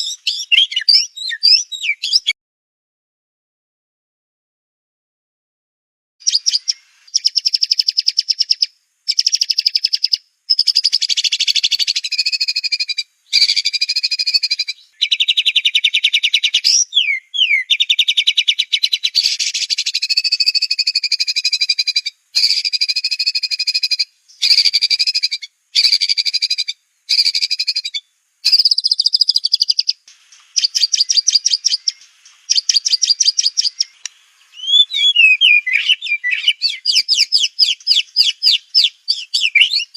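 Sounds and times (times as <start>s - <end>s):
bird buzzy trills: 0.0s - 2.4s, 6.2s - 39.9s.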